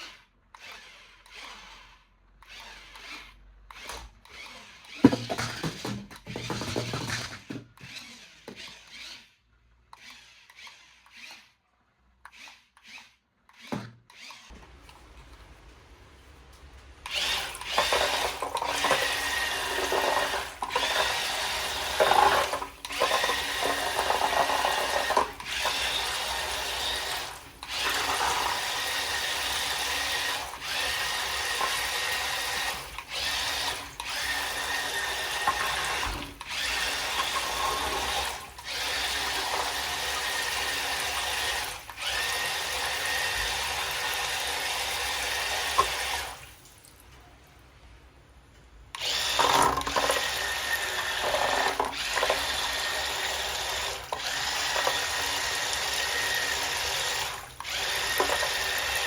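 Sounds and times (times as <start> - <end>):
toy electric motor whirring: 0.0 - 11.6, 12.2 - 14.6, 17.0 - 46.4, 49.0 - 59.0.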